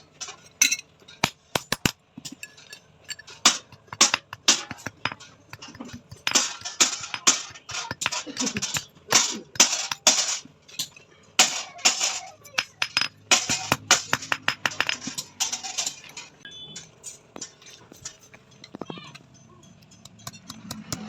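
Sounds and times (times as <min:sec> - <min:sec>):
metallic clicks and clinks: 0:00.2 - 0:21.0.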